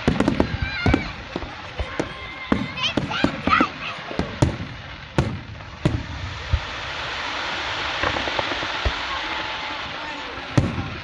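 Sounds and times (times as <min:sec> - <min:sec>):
fireworks banging: 0:00.0 - 0:11.0
fireworks hissing: 0:00.0 - 0:11.0.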